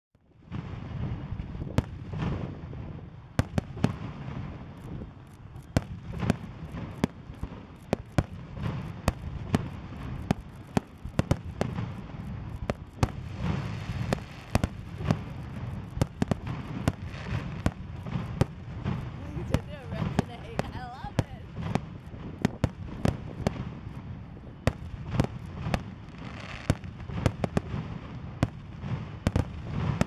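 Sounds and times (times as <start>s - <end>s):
fireworks bangs and pops: 0.4s - 30.0s.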